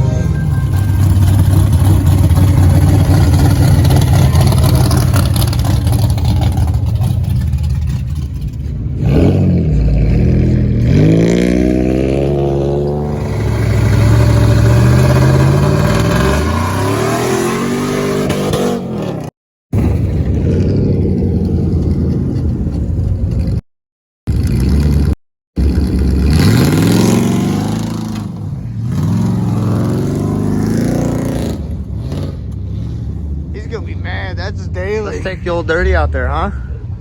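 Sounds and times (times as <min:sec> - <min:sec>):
truck engine at high revs: 0:00.0 - 0:23.6, 0:24.3 - 0:36.4.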